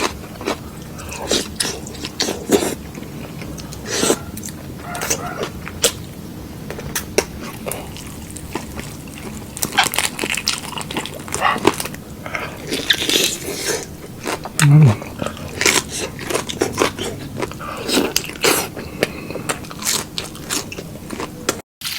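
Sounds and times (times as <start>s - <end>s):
person chewing and crunching: 0.0s - 6.1s, 6.7s - 21.9s.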